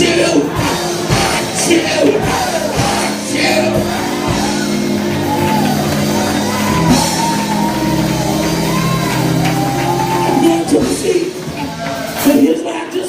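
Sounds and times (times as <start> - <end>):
church music with held chords: 0.0 - 13.0
person shouting and singing: 0.0 - 13.0.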